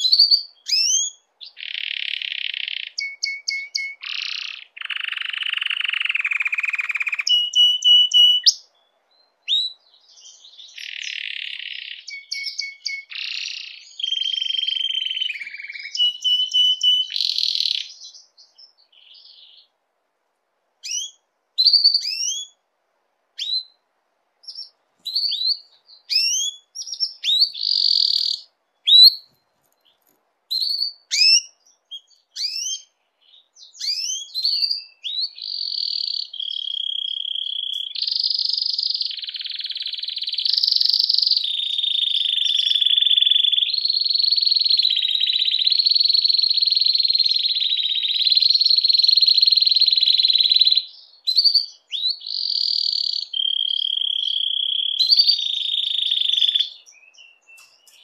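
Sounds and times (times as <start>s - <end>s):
canary singing: 0.0s - 19.8s, 20.8s - 22.6s, 23.4s - 23.8s, 24.4s - 58.0s.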